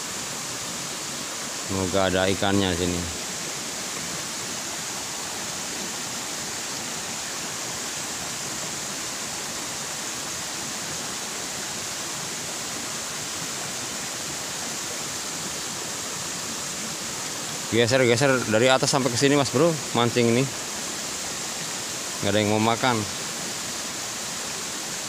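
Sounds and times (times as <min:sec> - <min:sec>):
river rushing over stones: 0:00.0 - 0:25.0.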